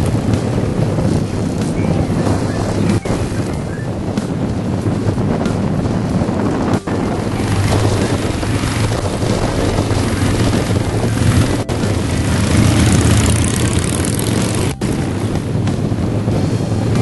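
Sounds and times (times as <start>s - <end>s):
motorcycle engines running: 0.0s - 17.0s
wind rushing over microphone: 0.0s - 17.0s.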